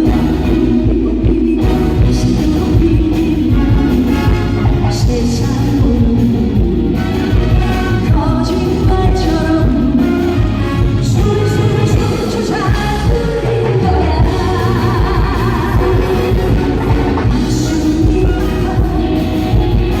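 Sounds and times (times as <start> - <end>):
amplified backing music with beat: 0.0 - 20.0
person singing live: 0.0 - 20.0.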